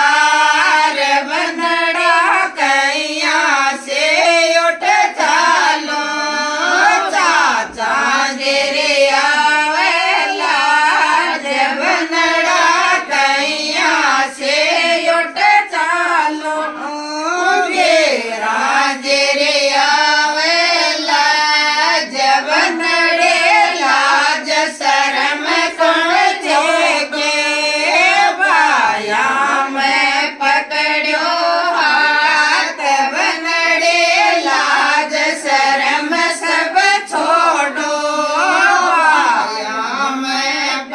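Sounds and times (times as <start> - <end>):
women singing folk song: 0.0 - 40.9.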